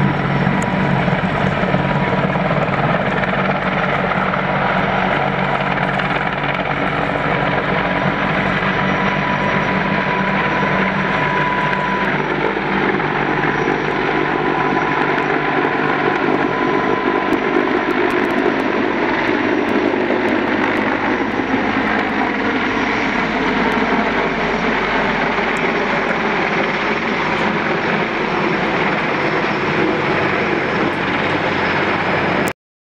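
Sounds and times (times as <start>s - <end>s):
helicopter engine and rotors: 0.0s - 32.5s
high engine whine: 0.0s - 32.5s.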